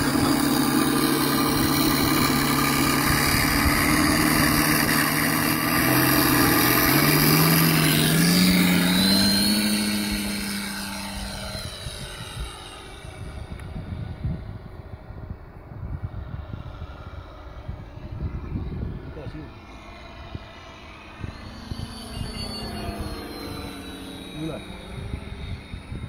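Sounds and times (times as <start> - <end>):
propeller noise: 0.0 - 26.0
simulated radial engine sound: 0.0 - 26.0.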